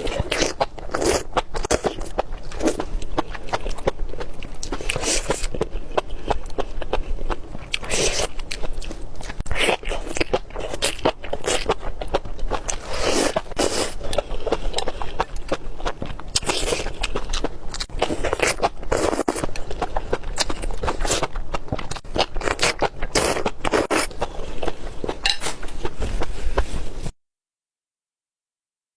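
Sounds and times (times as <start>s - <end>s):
person biting and chewing food: 0.0s - 26.6s.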